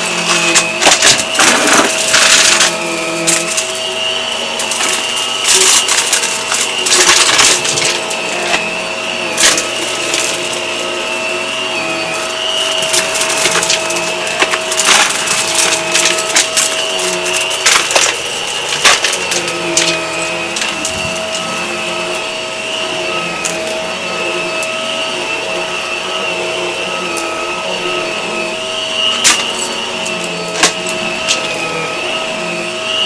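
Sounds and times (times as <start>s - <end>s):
debris crackling in vacuum: 0.0s - 33.0s
vacuum cleaner whine: 0.0s - 33.0s.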